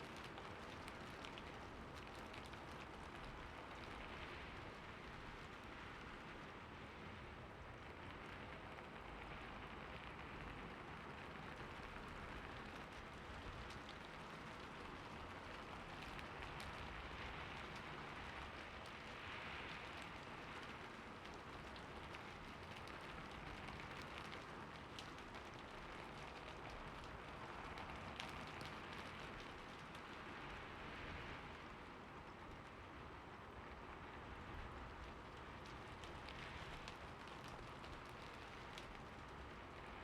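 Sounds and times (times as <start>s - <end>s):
raindrop ticks: 0.0s - 6.6s, 7.9s - 40.0s.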